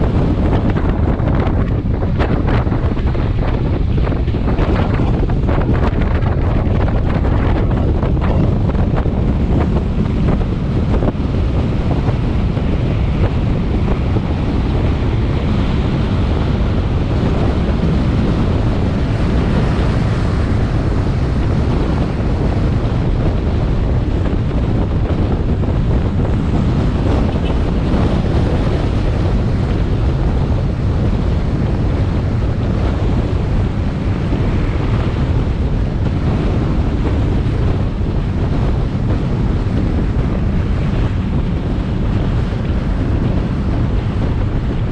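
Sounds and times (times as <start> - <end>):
road noise: 0.0 - 44.9
wind buffeting microphone: 0.0 - 44.9.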